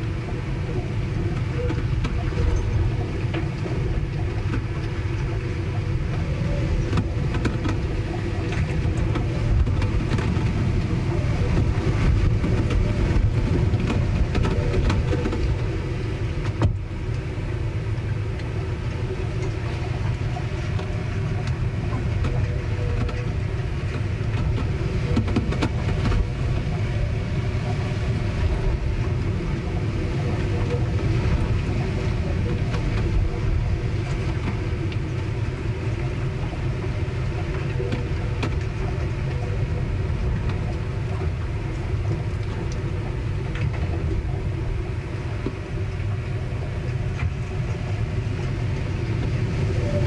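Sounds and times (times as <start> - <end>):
low rumble of wind and water: 0.0 - 50.0.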